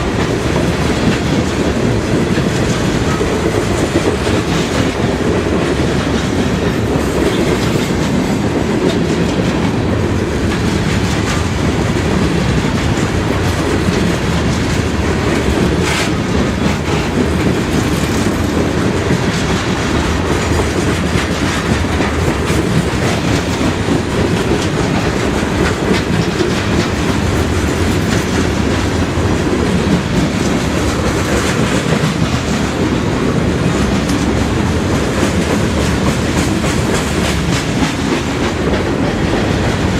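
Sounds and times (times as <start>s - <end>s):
freight train cars rumbling past: 0.0s - 39.9s
wheels clacking over rail joints: 0.0s - 39.9s.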